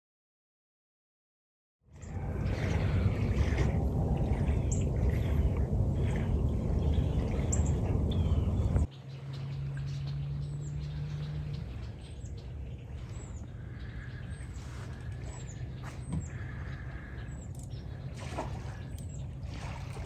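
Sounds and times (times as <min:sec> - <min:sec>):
faint low hum: 0:01.9 - 0:20.0
steady low rumble: 0:01.9 - 0:20.0.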